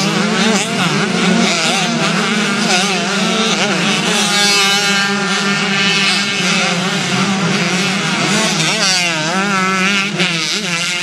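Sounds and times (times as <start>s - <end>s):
two-stroke motocross bikes revving: 0.0s - 11.0s.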